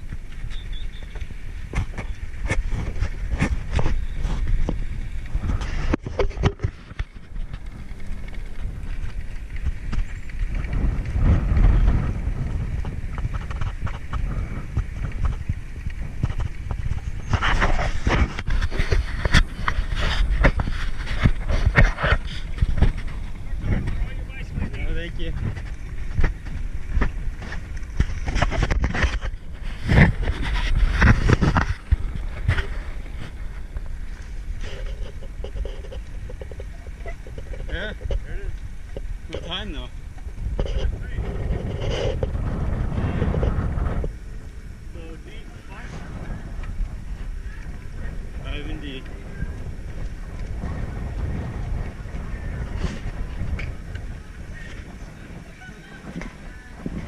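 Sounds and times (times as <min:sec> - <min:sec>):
bicycle rattling over rough ground: 0:00.0 - 0:57.0
wind on microphone: 0:00.0 - 0:57.0.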